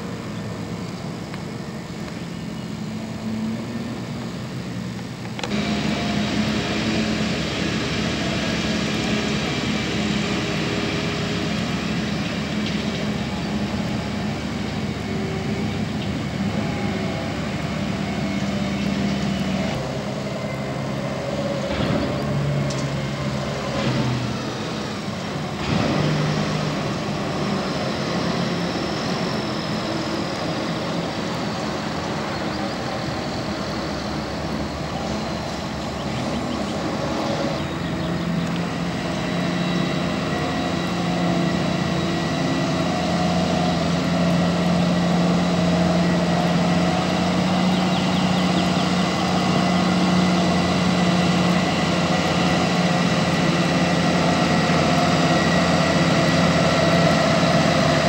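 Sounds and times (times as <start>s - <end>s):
heavy truck engines running: 0.0s - 58.0s.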